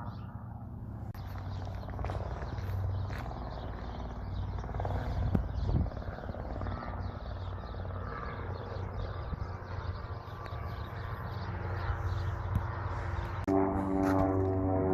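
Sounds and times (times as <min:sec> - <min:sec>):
light aircraft droning overhead: 0:00.0 - 0:14.9.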